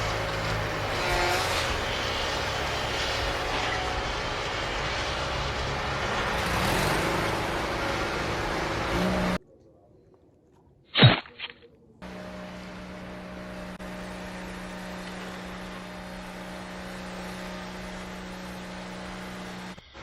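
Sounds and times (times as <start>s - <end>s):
steady motor hum: 0.0s - 9.4s, 12.0s - 20.0s.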